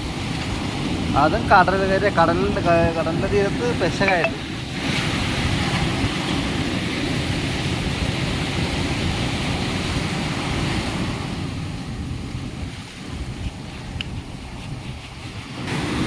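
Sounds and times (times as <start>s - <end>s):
surf washing on shore: 0.0s - 16.0s
wind buffeting microphone: 2.5s - 16.0s.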